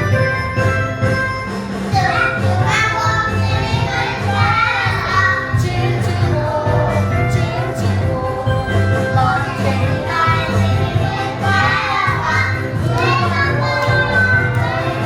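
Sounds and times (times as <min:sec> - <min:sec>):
upbeat backing track with bass beat: 0:00.0 - 0:15.0
children singing: 0:01.9 - 0:15.0.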